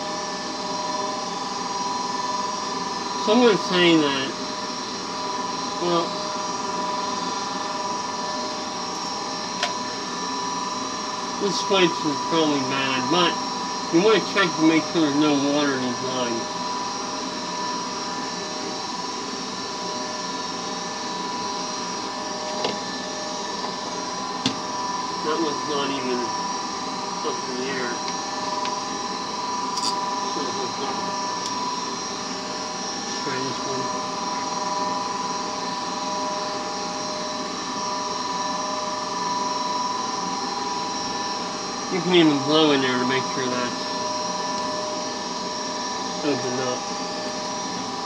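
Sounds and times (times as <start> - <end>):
furnace motor humming and whining: 0.0 - 48.0.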